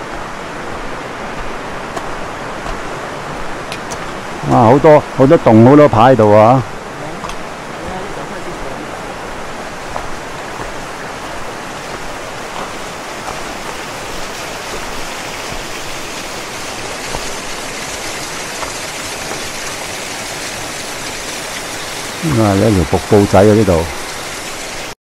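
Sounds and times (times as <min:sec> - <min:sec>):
stream and waterfall rushing: 0:00.0 - 0:25.0.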